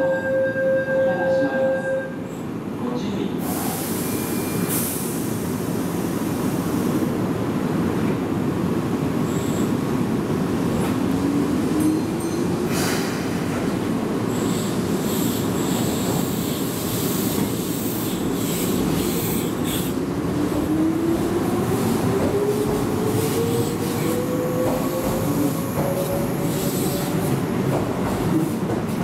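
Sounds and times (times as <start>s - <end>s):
train wheels rumbling on rail: 3.4s - 29.0s.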